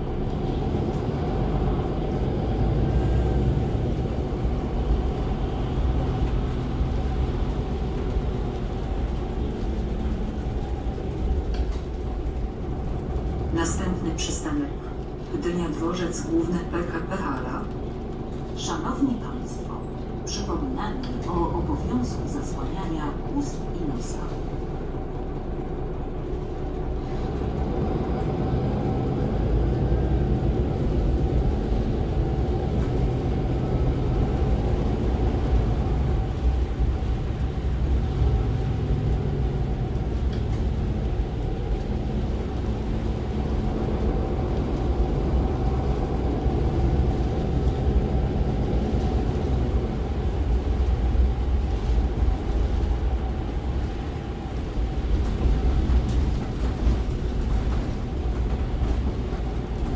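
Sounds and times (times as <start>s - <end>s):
bus interior running noise: 0.0s - 59.9s
diesel engine drone: 0.0s - 59.9s
road noise: 0.0s - 59.9s.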